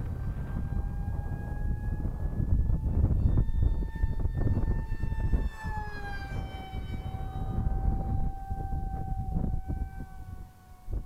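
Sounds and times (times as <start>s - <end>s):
model jet fan whine: 0.0s - 11.0s
wind buffeting microphone: 0.0s - 11.0s.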